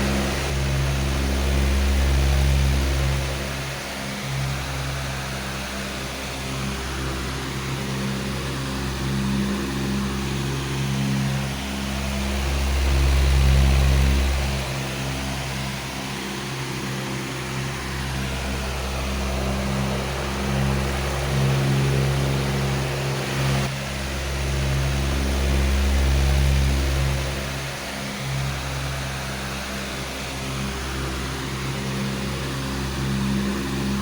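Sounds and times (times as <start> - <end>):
electric fan running: 0.0 - 34.0.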